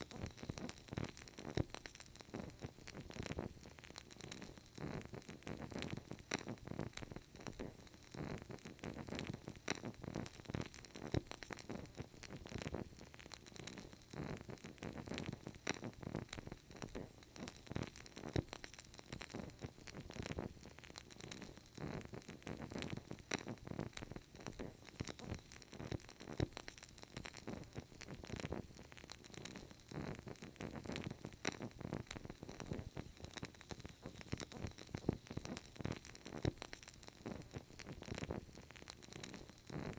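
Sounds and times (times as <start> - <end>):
candle flame crackling: 0.0 - 39.9.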